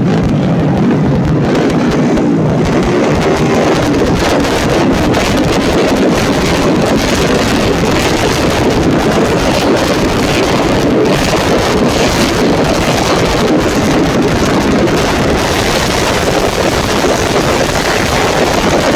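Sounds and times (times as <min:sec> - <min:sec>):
racing motorcycle engines: 0:00.0 - 0:18.9
wind buffeting microphone: 0:00.0 - 0:18.9.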